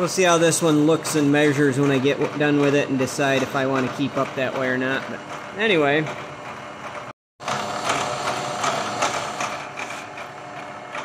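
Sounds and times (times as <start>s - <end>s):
milling machine spindle whirring: 0.0s - 11.0s.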